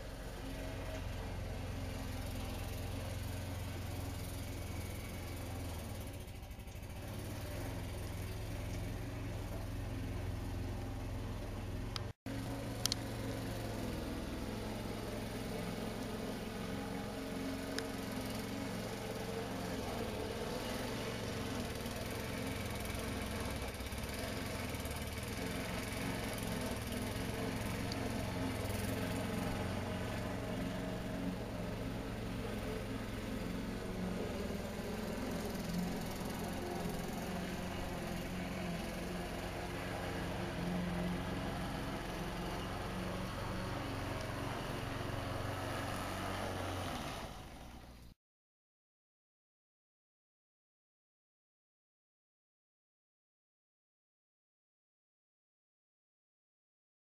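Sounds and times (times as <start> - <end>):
vehicle engine hum: 0.0 - 48.2.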